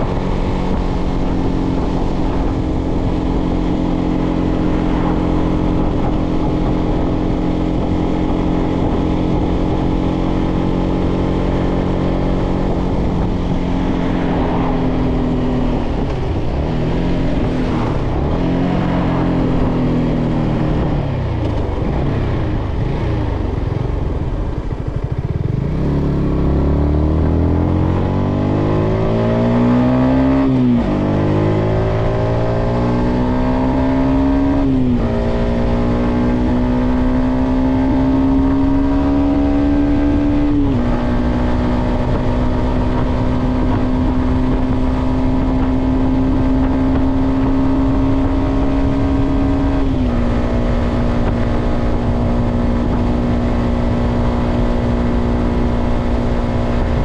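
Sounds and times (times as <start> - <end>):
motorcycle engine shifting gears: 0.0 - 57.0
wind rush: 0.0 - 57.0.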